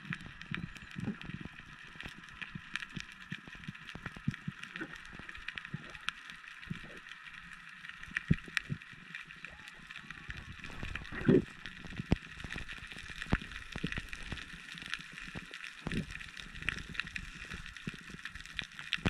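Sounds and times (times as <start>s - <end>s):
underwater clicks and crackles: 0.0s - 19.0s.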